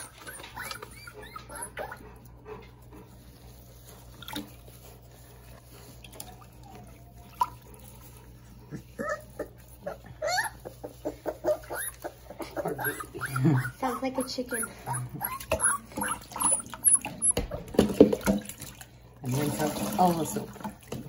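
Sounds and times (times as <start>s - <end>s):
puppy whining: 0.0s - 3.7s, 4.6s - 17.9s.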